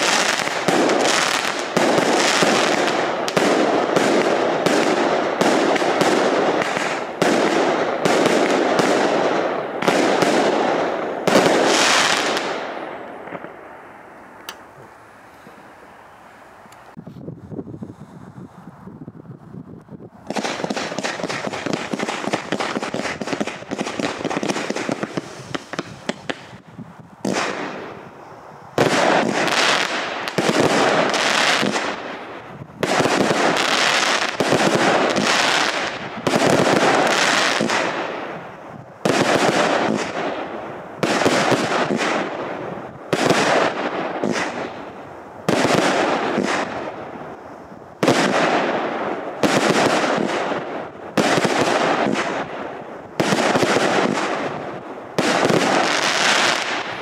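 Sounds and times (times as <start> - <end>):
rapid crackling firework shots: 0.0 - 13.6, 20.2 - 26.6, 27.2 - 28.1, 28.8 - 57.0
loud firework volleys: 0.0 - 15.7, 16.9 - 57.0.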